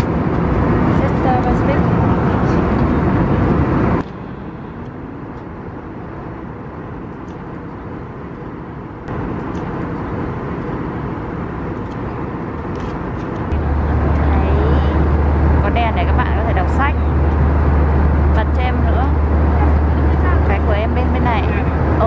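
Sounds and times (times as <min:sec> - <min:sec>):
airliner cabin rumble and hiss: 0:00.0 - 0:22.0.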